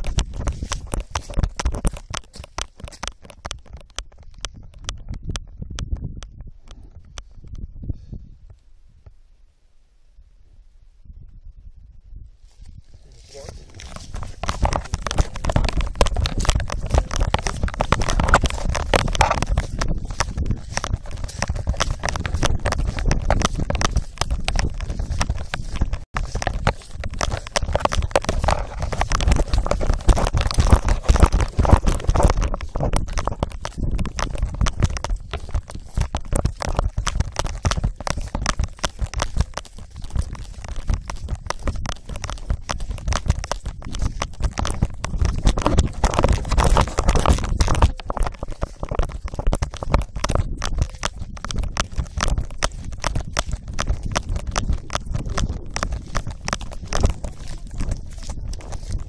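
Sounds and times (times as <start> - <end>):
dog paws thumping ground: 0.0 - 6.2, 13.1 - 59.0.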